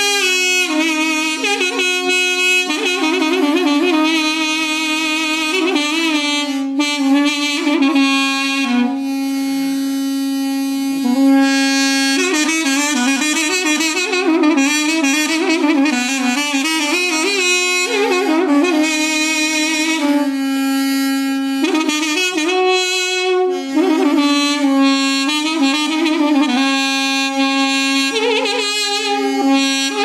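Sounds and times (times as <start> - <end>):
wind instrument melody with trills: 0.0 - 30.0.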